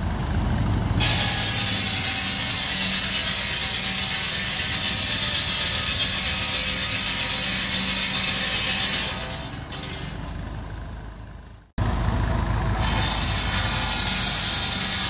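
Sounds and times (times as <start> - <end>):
tractor engine running: 0.0 - 15.0
circular saw cutting log: 1.0 - 11.1, 12.8 - 15.0.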